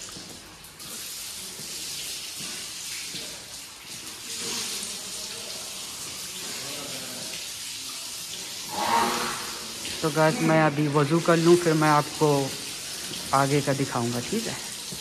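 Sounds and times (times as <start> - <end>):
water running from faucets: 0.0 - 15.0.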